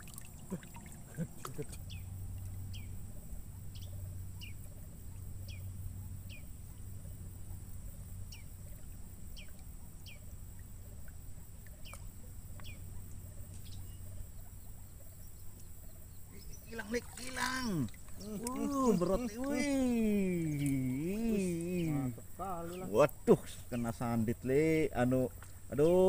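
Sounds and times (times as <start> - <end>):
bird calling faintly: 0.0 - 24.0
low steady hum: 0.0 - 26.0.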